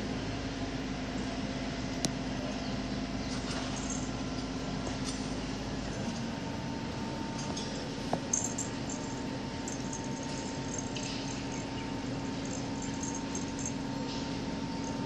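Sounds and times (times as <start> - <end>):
continuous background rush: 0.0 - 15.0
low mechanical hum: 0.0 - 15.0.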